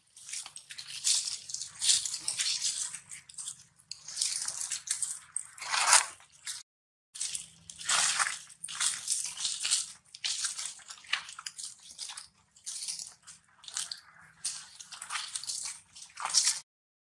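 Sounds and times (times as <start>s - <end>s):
dry leaves crunching underfoot: 0.2s - 6.1s, 7.2s - 16.6s.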